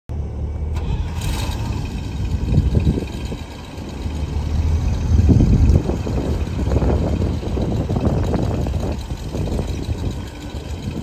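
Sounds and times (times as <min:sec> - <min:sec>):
truck engine running: 0:00.1 - 0:11.0.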